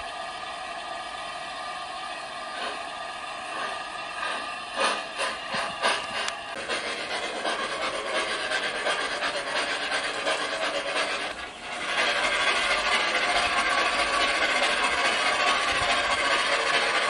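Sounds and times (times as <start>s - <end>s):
model steam locomotive running: 0.0s - 17.0s.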